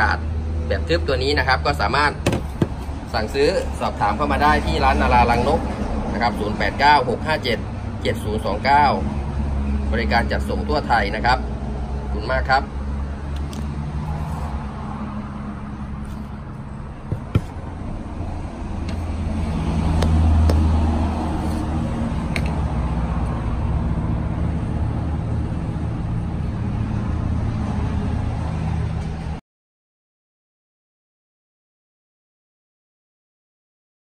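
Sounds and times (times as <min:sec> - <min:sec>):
low rumble of motor traffic: 0:00.0 - 0:29.4.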